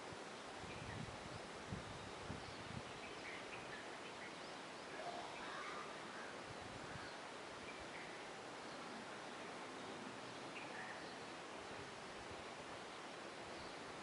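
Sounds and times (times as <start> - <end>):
low wind rumble: 0.0 - 14.0
steady hiss: 0.0 - 14.0.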